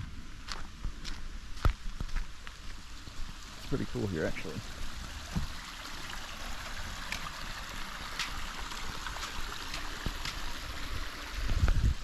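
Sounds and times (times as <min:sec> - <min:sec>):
flowing creek water: 0:00.0 - 0:12.0.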